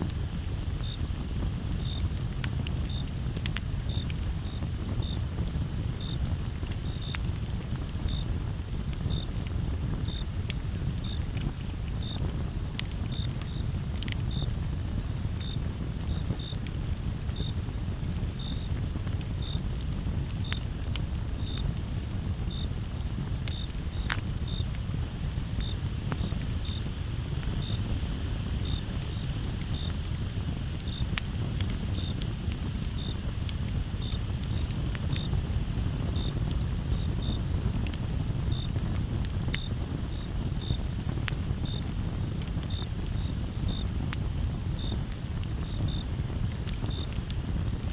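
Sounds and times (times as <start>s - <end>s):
campfire crackling and popping: 0.0s - 47.9s
low rumble of flames: 0.0s - 47.9s
cricket chirping: 0.2s - 47.9s.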